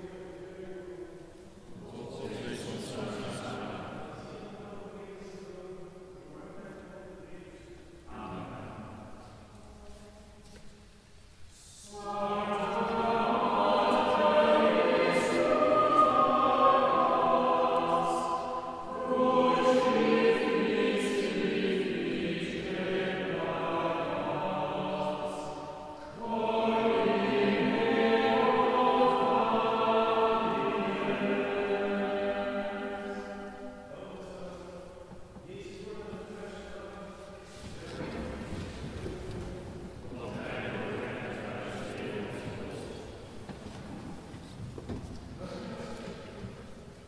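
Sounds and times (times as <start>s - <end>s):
voices singing plainchant in unison: 0.0s - 10.0s, 11.6s - 44.0s.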